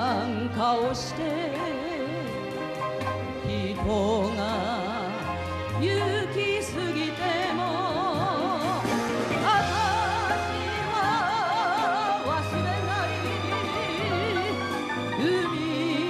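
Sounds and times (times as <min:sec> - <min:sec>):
woman singing with vibrato: 0:00.0 - 0:02.5, 0:03.4 - 0:16.0
instrumental accompaniment with bass: 0:00.0 - 0:16.0.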